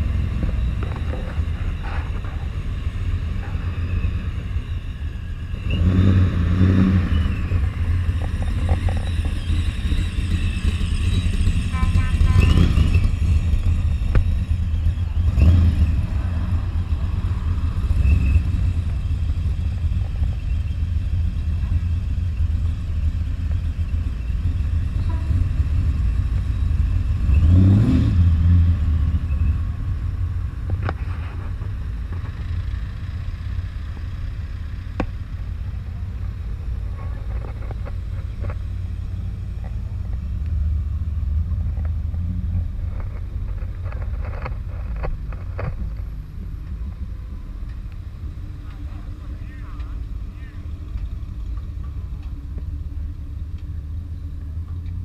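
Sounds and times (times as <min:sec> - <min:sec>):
cars driving past rumbling: 0:00.0 - 0:55.0.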